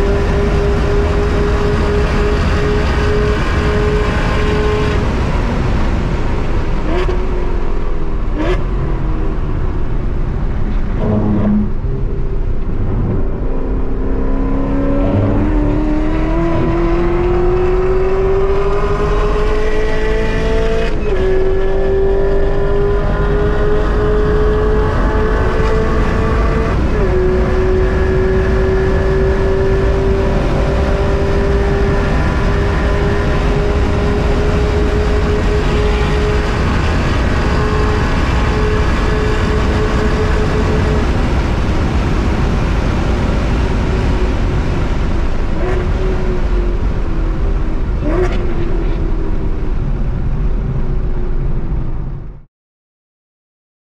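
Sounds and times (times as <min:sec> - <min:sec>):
car engine at full throttle: 0:00.0 - 0:52.5
road and wind noise: 0:00.0 - 0:52.5.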